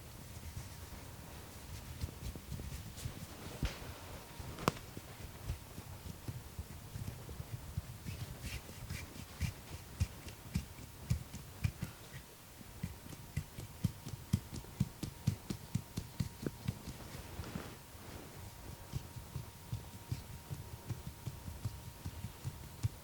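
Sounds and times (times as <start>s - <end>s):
hands patting and slapping head: 1.6s - 17.8s, 18.4s - 23.0s.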